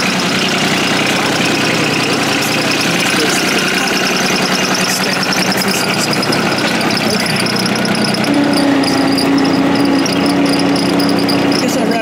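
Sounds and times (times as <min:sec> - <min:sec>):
engine running steadily: 0:00.0 - 0:12.0
fast high ticking: 0:00.0 - 0:12.0
steady hum: 0:00.0 - 0:12.0.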